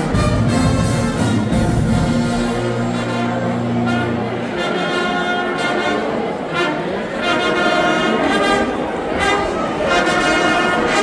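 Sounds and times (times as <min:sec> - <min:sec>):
brass band chords: 0:00.0 - 0:11.0.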